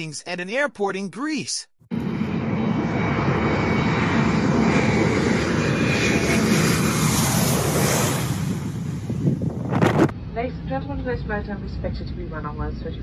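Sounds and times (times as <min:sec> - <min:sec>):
faint high engine whine: 0:01.9 - 0:13.0
jet engines roaring: 0:01.9 - 0:13.0.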